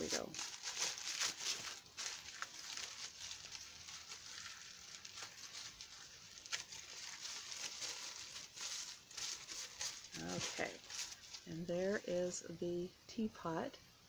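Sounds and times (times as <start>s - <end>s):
tissue paper rustling: 0.0s - 12.4s.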